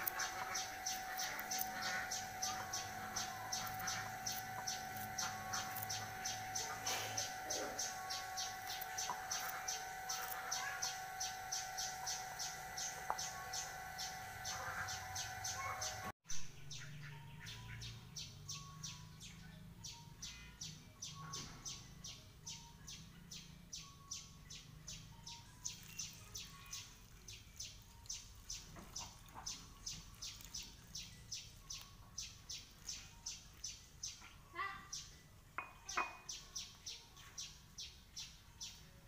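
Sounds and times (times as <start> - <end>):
small bird chirping: 0.0 - 39.0.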